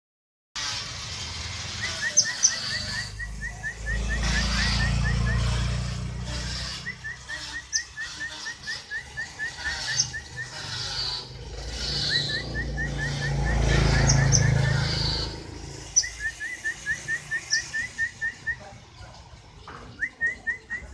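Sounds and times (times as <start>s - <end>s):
canary singing: 0.6s - 20.9s.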